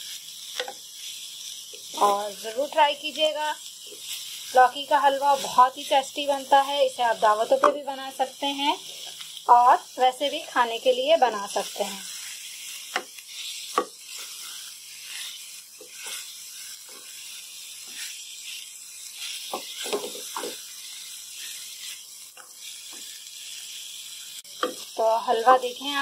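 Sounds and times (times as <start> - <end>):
ghee sizzling: 0.0 - 26.0.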